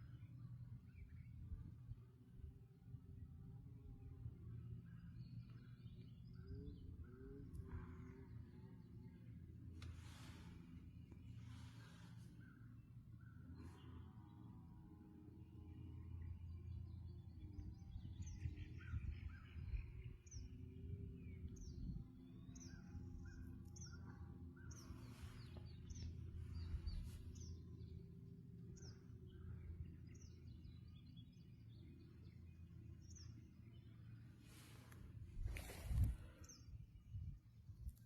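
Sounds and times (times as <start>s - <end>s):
faint low rumble: 0.0s - 38.0s.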